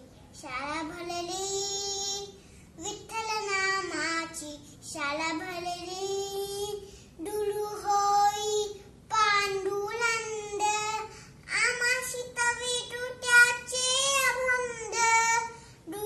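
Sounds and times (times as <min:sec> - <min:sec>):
girl singing unaccompanied: 0:00.0 - 0:16.0.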